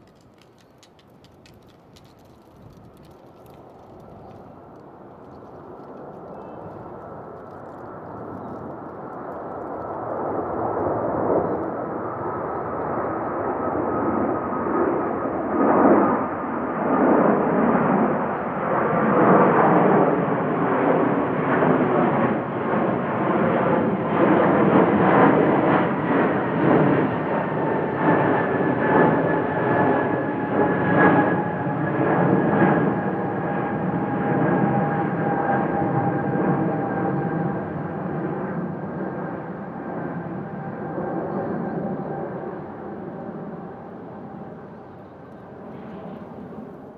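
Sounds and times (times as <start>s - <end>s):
jet engines roaring overhead: 0.0s - 46.9s.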